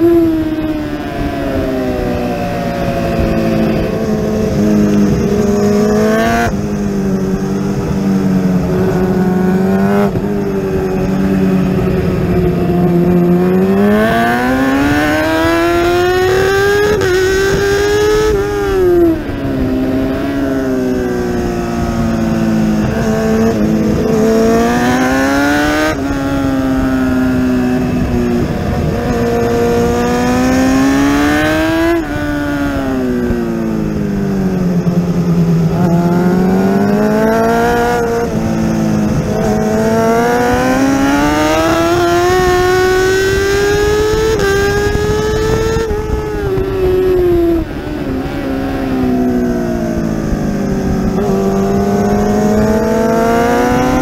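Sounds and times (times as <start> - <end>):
motorcycle race engine revving: 0.0 - 54.0.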